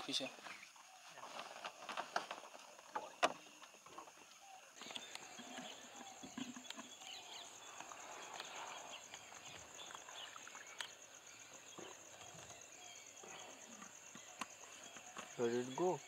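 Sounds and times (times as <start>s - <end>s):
pulsing high-pitched insect call: 0.0s - 16.0s
faint bird chirps: 2.8s - 16.0s.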